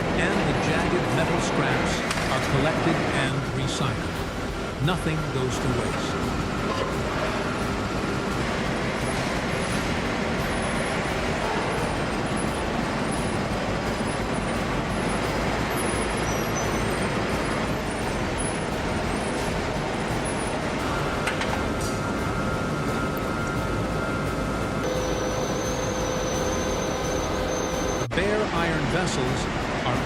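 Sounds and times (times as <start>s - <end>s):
steady machinery din: 0.0s - 30.0s.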